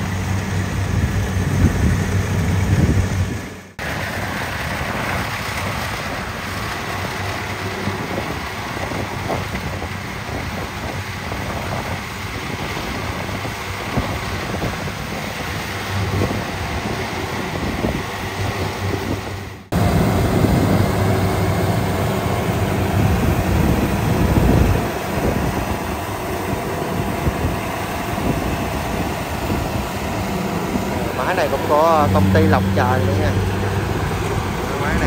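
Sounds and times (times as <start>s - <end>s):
combine harvester running: 0.0s - 35.0s.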